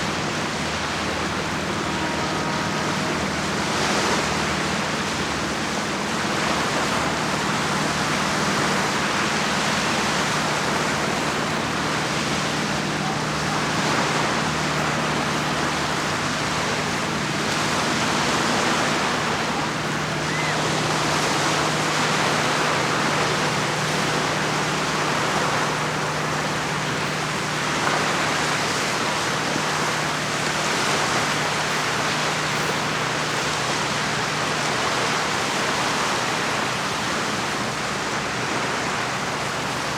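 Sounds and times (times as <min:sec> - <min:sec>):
waves washing against shore: 0:00.0 - 0:39.9.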